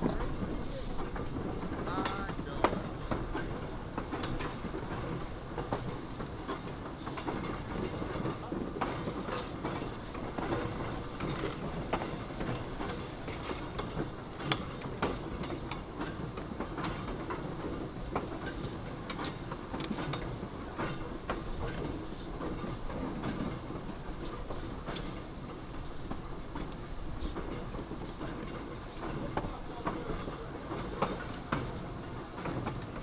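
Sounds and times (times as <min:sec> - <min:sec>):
train rumbling on track: 0:00.0 - 0:33.0
wheels clicking over rail joints: 0:00.0 - 0:33.0.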